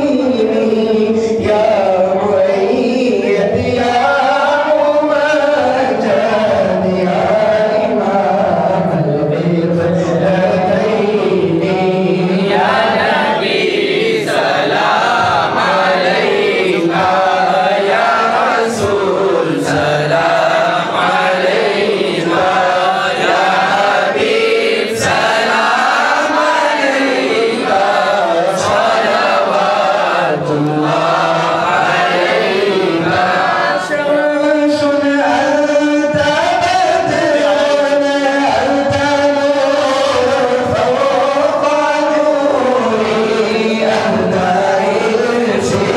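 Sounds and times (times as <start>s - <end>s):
men chanting together: 0.0s - 45.9s.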